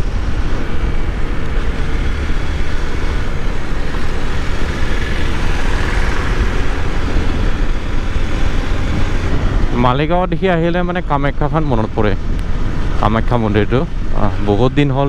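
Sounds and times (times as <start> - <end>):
wind buffeting microphone: 0.0 - 14.9
motorcycle engine cruising: 0.0 - 15.0
road noise: 0.0 - 15.0.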